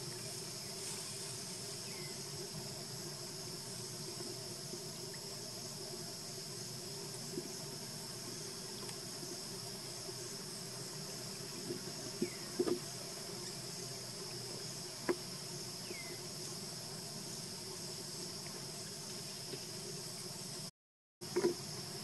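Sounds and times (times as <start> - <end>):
insect chorus chirring: 0.0 - 22.0.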